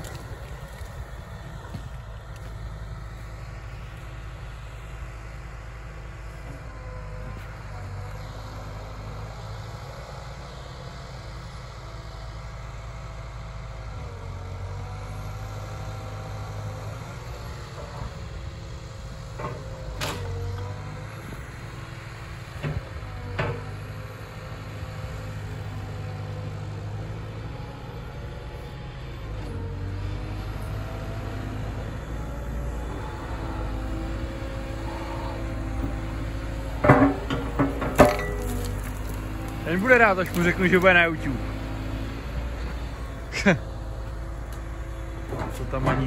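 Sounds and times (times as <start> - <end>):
excavator diesel engine: 0.0 - 46.0.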